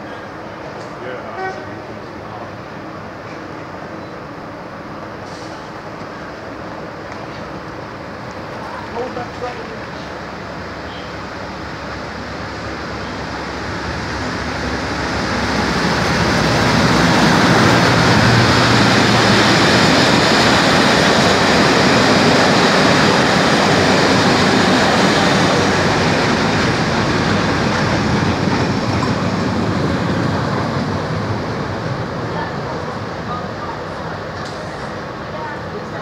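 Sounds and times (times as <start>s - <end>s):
diesel locomotive passing at speed: 0.0s - 36.0s
train wheels running over rails: 5.1s - 36.0s.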